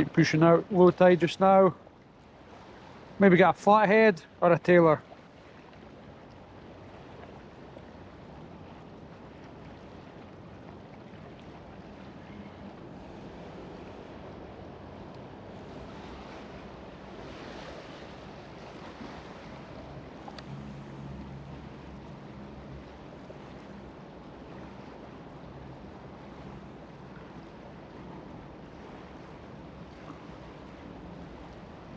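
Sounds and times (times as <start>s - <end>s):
river water flowing: 0.0s - 31.9s.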